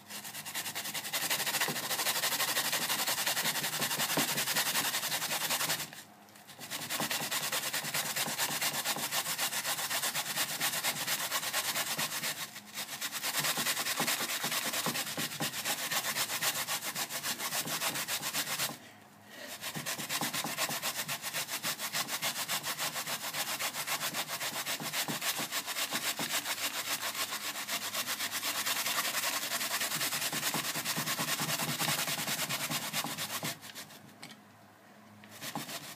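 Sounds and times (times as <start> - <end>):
radish rasping on a grater: 0.0 - 6.0, 6.6 - 18.8, 19.5 - 34.0, 35.3 - 35.9.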